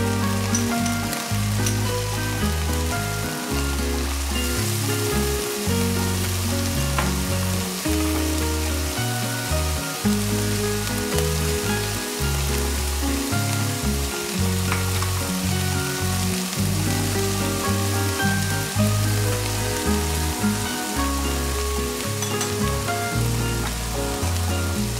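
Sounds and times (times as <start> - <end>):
background music with bass line: 0.0 - 24.9
meat sizzling in a pan: 0.0 - 24.9.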